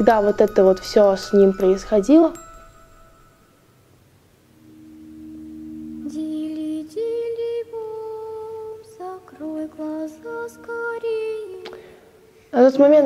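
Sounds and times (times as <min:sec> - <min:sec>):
slow lullaby music: 0:00.0 - 0:12.5.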